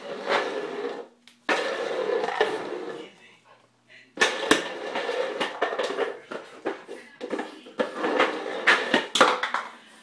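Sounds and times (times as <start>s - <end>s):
plastic bowl scraping on floor: 0.0s - 3.1s, 4.2s - 9.6s.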